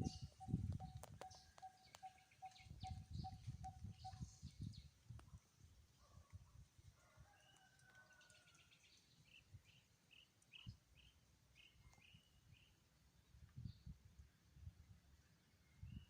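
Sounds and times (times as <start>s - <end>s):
faint birdsong: 0.0s - 5.4s, 7.4s - 16.0s.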